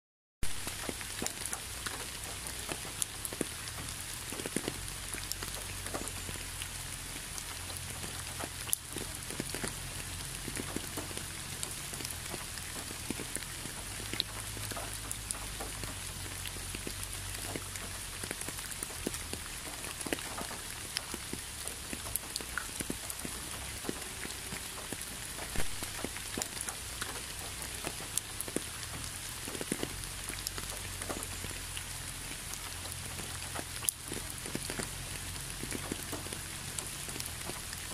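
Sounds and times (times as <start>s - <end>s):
raindrop clicks: 0.4s - 37.9s
steady rain hiss: 0.4s - 37.9s.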